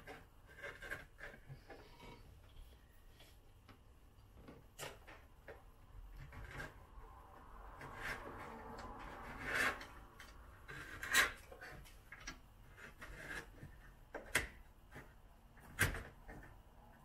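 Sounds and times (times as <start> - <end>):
wire scraping inside metal pillar: 0.0 - 3.3, 4.4 - 17.0.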